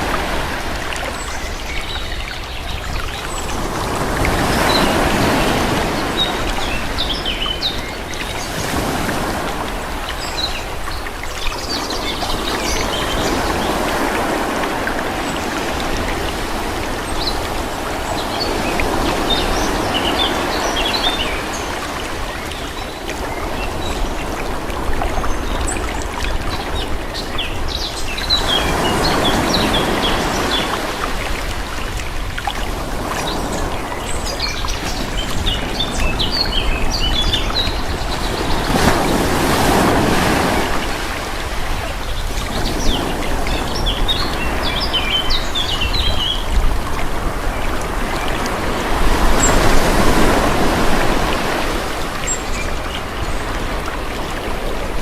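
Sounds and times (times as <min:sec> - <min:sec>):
small waves washing: 0:00.0 - 0:55.0.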